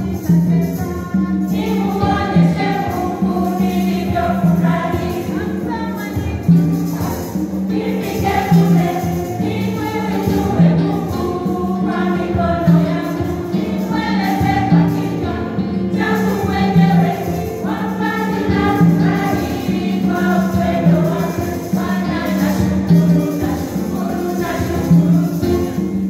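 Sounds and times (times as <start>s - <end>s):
choir singing gospel: 0.0s - 26.0s
instrumental accompaniment: 0.0s - 26.0s
tambourine jingling: 0.0s - 26.0s.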